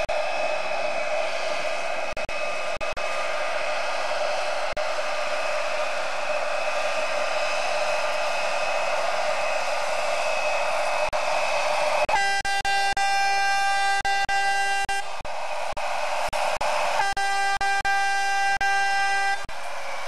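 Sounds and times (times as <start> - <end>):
faint high whine: 0.0 - 20.0
steady rushing noise: 0.0 - 20.0.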